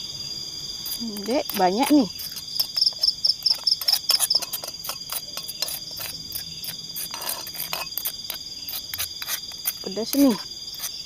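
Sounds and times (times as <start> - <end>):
insects trilling: 0.0 - 11.0
spoon stirring in a pan: 0.8 - 9.8.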